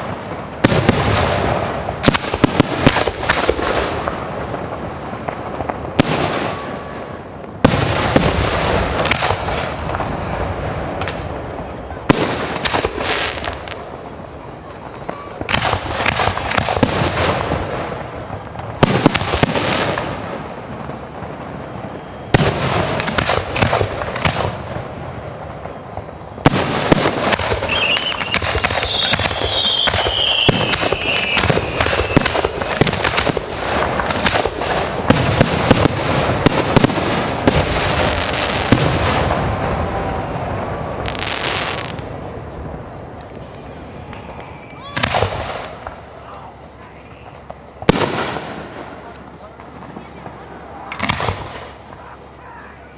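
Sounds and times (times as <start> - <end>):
firework crackle: 0.0 - 52.9.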